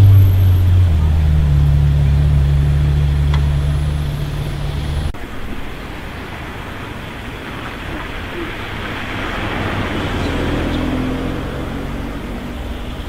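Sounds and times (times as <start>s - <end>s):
street traffic rush: 0.0s - 13.0s
vehicle engine humming: 0.0s - 13.0s.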